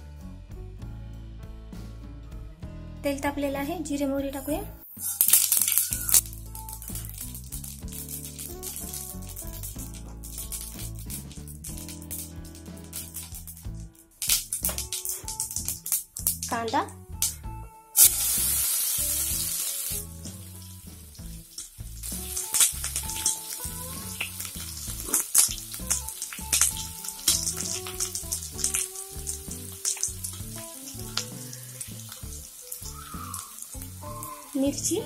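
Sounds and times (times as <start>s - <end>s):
onion sizzling in hot oil: 4.8s - 16.8s, 18.0s - 35.0s
frying crackles: 4.8s - 17.4s, 18.0s - 35.0s.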